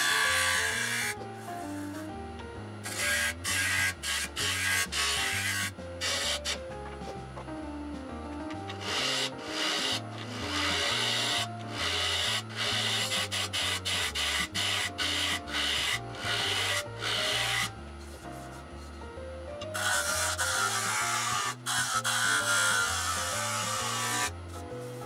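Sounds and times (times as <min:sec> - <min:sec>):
gouge scraping wooden bowl on lathe: 0:00.0 - 0:01.6, 0:02.9 - 0:06.6, 0:08.6 - 0:18.6, 0:19.6 - 0:25.0.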